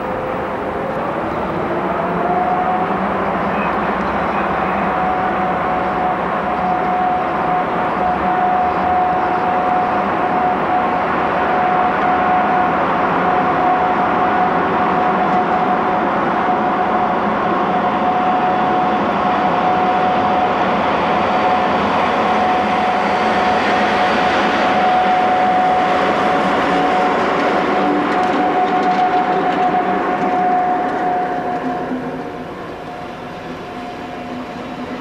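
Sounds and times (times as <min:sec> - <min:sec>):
high whine: 0:00.0 - 0:35.0
train running past: 0:00.0 - 0:35.0.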